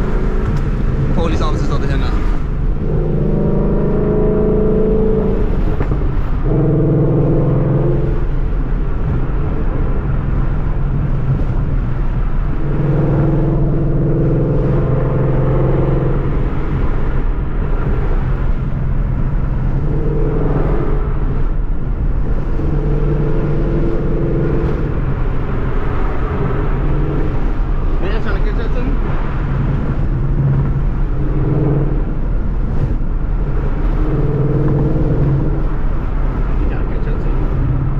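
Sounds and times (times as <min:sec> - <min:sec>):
car engine and exhaust driving: 0:00.0 - 0:37.9.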